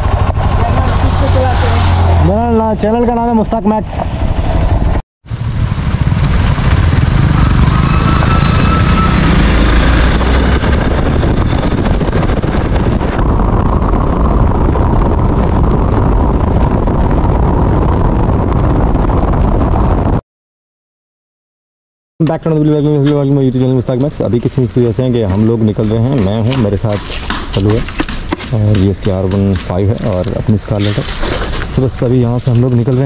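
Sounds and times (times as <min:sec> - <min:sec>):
motorcycle riding: 0:00.0 - 0:20.1, 0:23.0 - 0:33.0
wind buffeting microphone: 0:00.0 - 0:20.2, 0:22.8 - 0:33.0.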